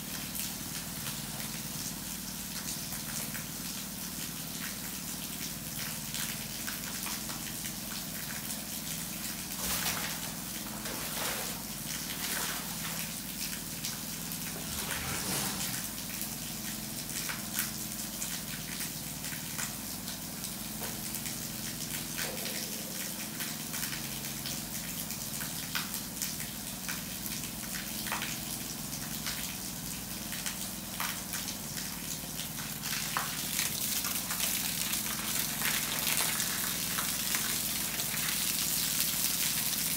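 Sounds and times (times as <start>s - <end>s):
hose spraying on concrete: 0.0s - 39.9s.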